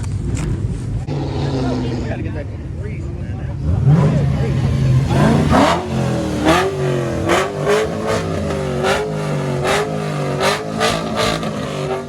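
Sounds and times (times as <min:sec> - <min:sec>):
car engine revving: 0:00.2 - 0:12.0.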